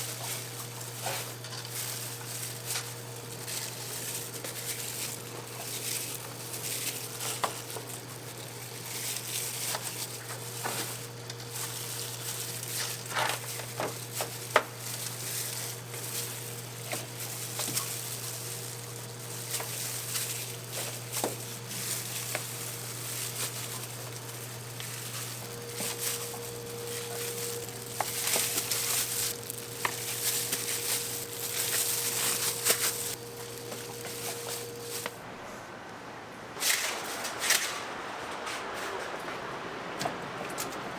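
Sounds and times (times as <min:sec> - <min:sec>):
chicken sizzling over fire: 0:00.0 - 0:35.2
steady low hum: 0:00.0 - 0:36.6.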